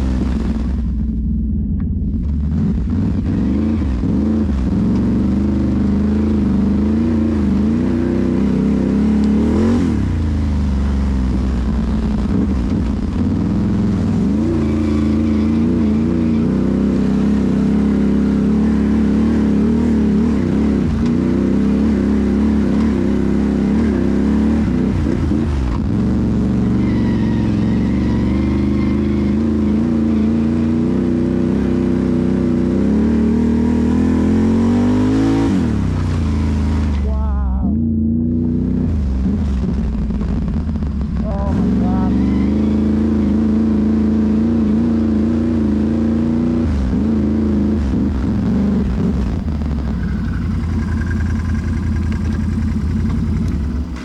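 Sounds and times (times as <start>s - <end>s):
atv engine revving: 0.0s - 39.4s, 41.3s - 54.0s.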